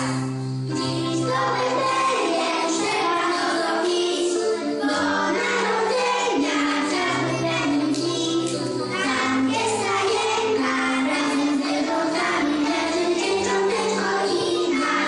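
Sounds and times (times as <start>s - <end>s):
children singing together: 0.0s - 15.0s
instrumental accompaniment with bass: 0.0s - 15.0s.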